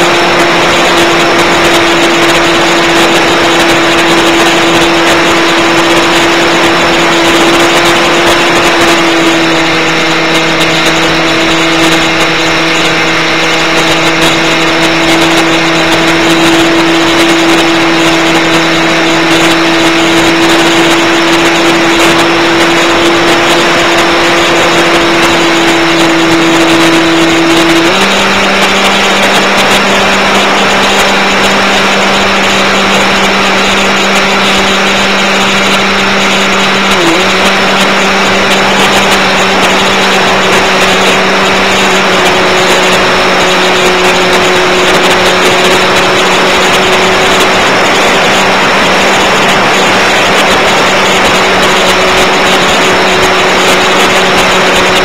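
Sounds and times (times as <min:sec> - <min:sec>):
model plane electric motor: 0:00.0 - 0:55.0
rushing noise: 0:00.0 - 0:55.0.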